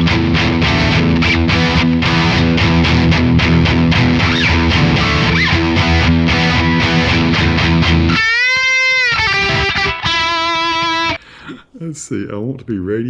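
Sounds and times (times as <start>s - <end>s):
distorted electric guitar: 0.0s - 11.2s.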